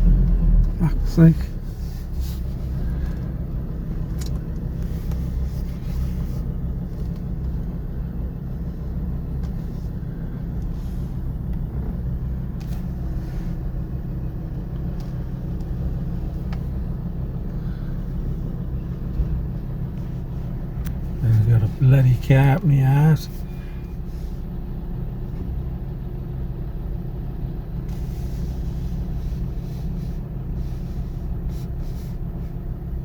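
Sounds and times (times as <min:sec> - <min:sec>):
car engine hum: 0:00.0 - 0:33.0
road noise: 0:00.0 - 0:33.0.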